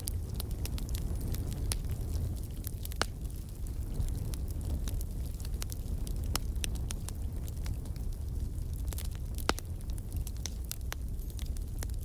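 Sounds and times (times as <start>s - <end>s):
sharp pops from fire: 0.0s - 12.0s
wood fire crackling: 0.0s - 12.0s.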